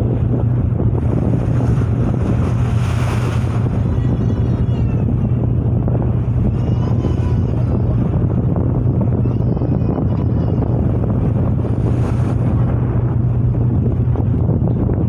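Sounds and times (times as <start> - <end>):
ship engine hum: 0.0 - 15.0
wind on microphone: 0.0 - 15.0.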